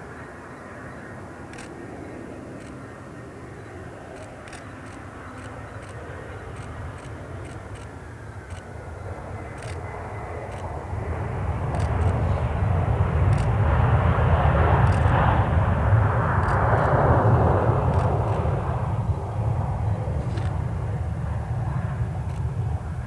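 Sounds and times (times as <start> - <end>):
airliner engine passing: 0.0 - 23.0.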